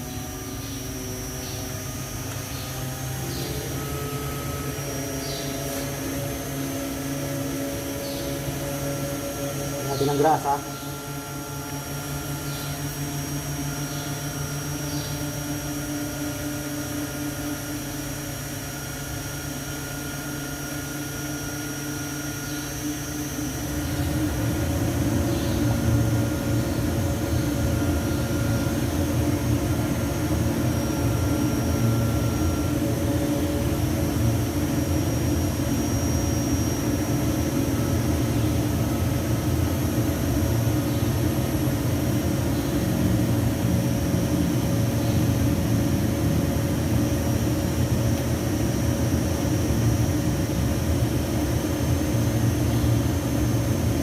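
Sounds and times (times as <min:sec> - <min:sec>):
mechanical drone with high whine: 0:00.0 - 0:54.0.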